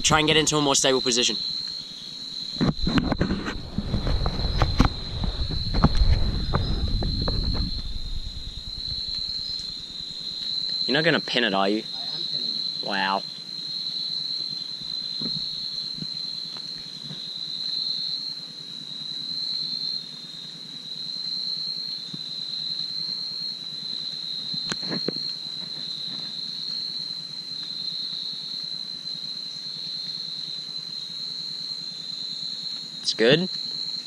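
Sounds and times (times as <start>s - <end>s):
crickets chirring: 0.0s - 34.0s.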